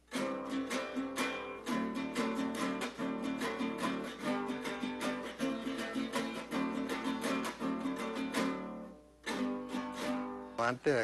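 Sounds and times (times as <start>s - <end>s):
small guitar strummed chords: 0.0s - 10.6s.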